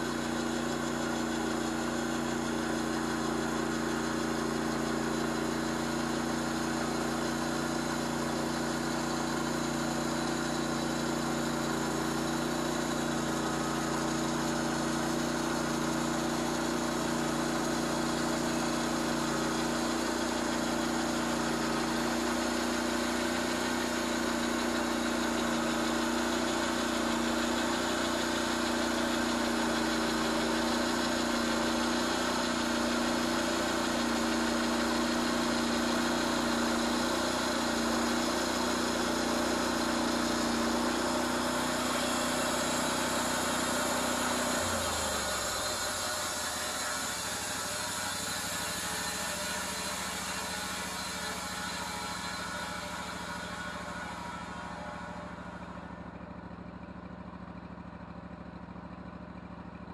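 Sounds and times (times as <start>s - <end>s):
sawmill engine hum: 0.0s - 59.9s.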